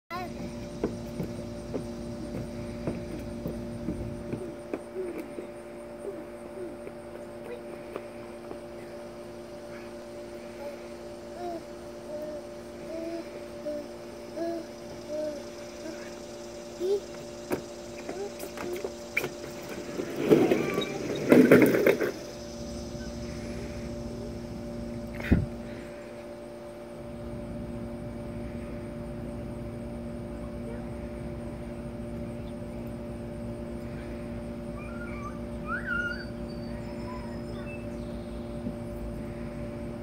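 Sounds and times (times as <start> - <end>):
steady low hum: 0.1 - 40.0.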